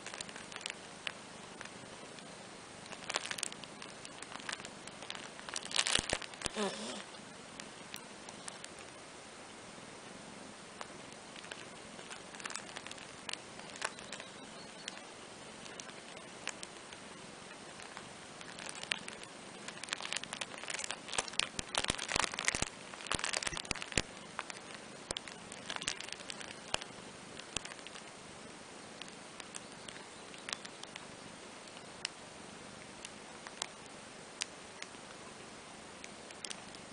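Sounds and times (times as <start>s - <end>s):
low steady hiss: 0.0s - 36.9s.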